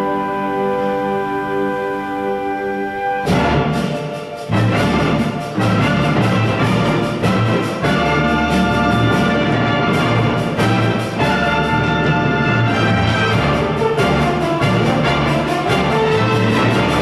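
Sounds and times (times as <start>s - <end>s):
orchestra playing with brass: 0.0s - 17.0s.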